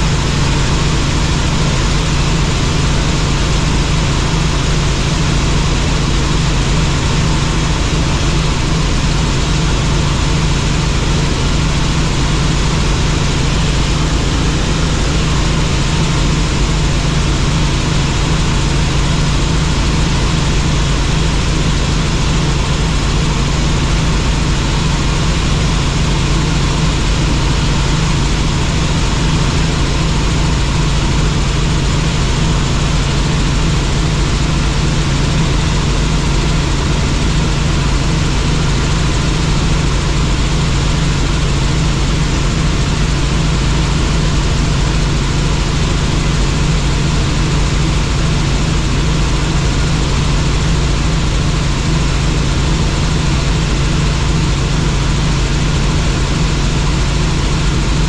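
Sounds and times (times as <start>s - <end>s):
helicopter drone: 0.0s - 58.0s.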